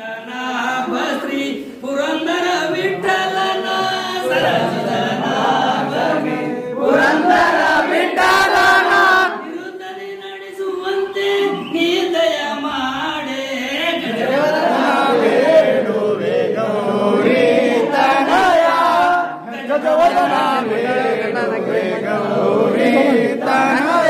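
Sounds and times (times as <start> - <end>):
men chanting a hymn: 0.0 - 24.0.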